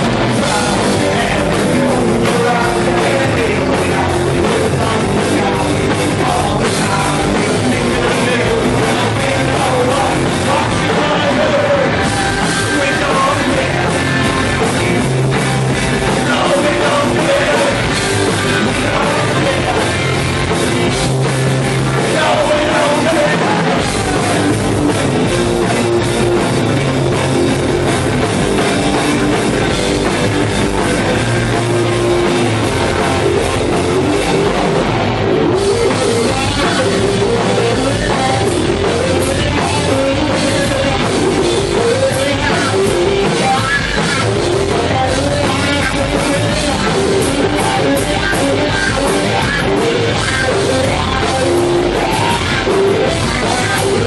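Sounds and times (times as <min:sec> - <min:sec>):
punk rock band playing live: 0:00.0 - 0:54.0.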